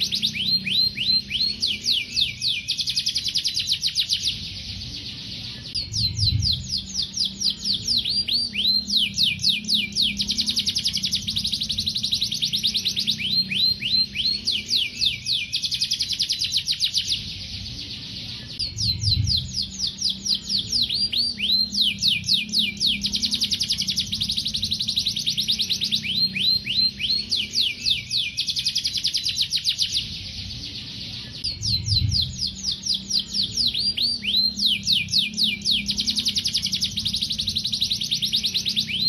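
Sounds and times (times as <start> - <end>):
canary singing trills: 0.0 - 39.0.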